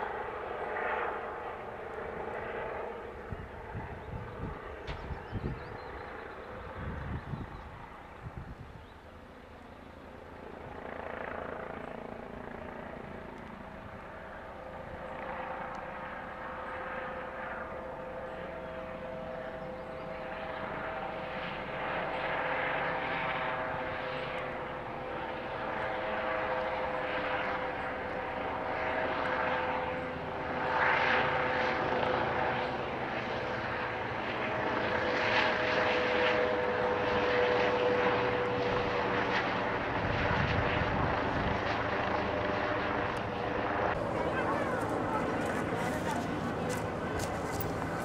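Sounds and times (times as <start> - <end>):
helicopter flying overhead: 0.0 - 48.0.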